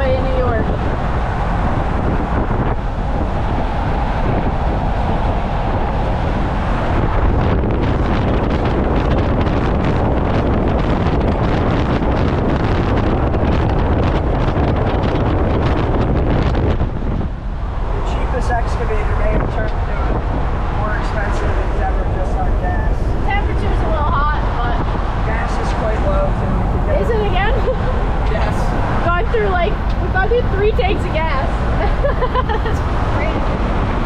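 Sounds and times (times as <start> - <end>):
truck engine and road rumble: 0.0 - 34.0
wind gusts on microphone: 0.0 - 34.0.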